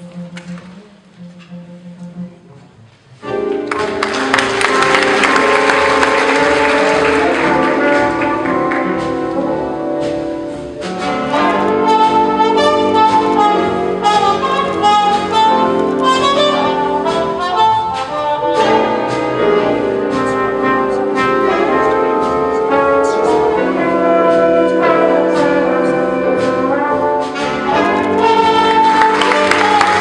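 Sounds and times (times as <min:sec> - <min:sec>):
jazz big band playing: 0:00.0 - 0:30.0.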